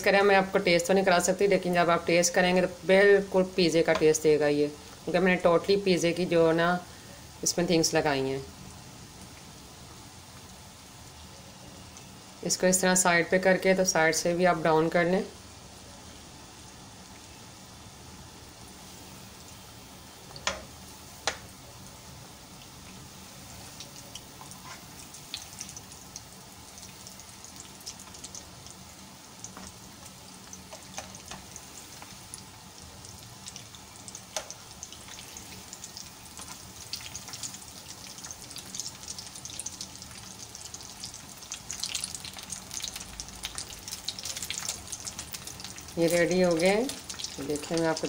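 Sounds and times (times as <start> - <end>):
deep-frying sizzle and pops: 0.0 - 48.0.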